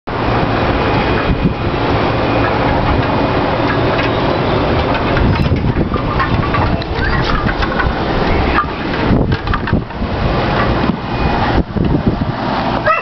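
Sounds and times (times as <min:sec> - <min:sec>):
strong wind buffeting microphone: 0:00.1 - 0:13.0.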